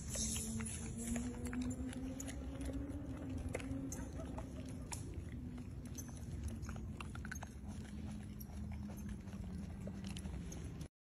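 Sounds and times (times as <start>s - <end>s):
monkeys chewing: 0.0s - 10.9s
steady low hum: 0.0s - 10.9s.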